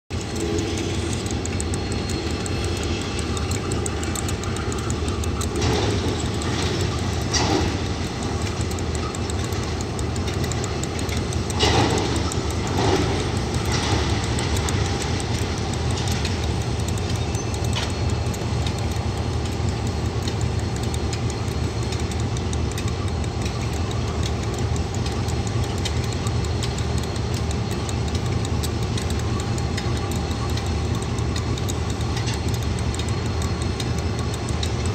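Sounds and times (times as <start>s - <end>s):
diesel locomotive idling: 0.1s - 34.9s.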